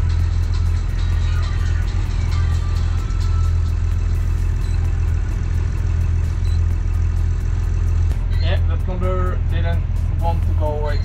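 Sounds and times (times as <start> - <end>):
diesel boat engine idling: 0.0 - 11.0.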